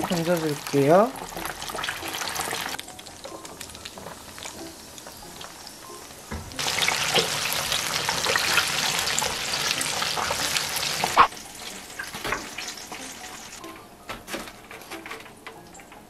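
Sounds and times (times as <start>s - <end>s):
food sizzling in deep oil: 0.0s - 13.6s.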